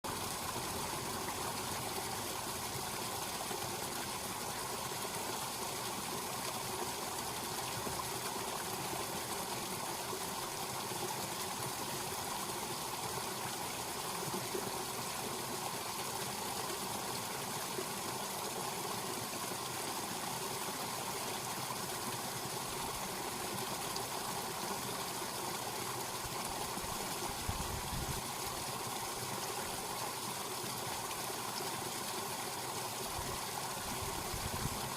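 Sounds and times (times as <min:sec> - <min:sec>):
small stream trickling: 0:00.0 - 0:34.9.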